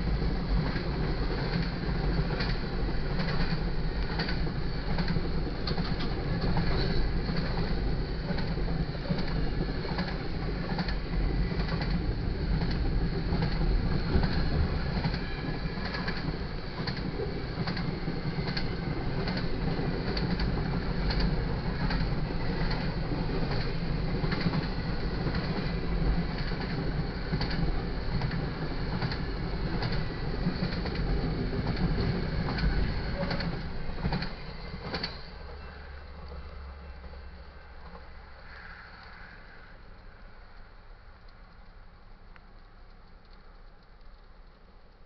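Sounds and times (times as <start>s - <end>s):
freight train wheels rumbling: 0.0s - 40.6s.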